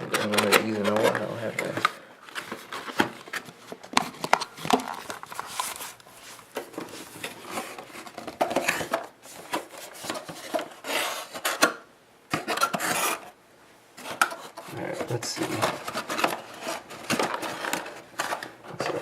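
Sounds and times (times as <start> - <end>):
packaging being opened: 0.0 - 11.8, 14.0 - 19.0.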